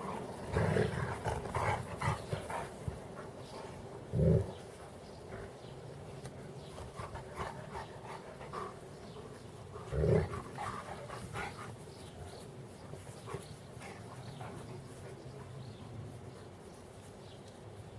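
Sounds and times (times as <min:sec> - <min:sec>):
dogs making deep vocal sounds: 0:00.0 - 0:16.0.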